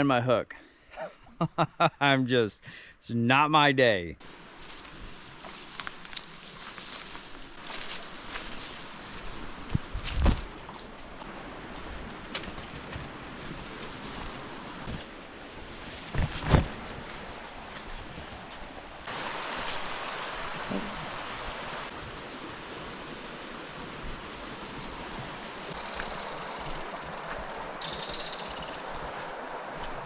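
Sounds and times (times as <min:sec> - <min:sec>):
stream water rushing: 0:04.2 - 0:30.0.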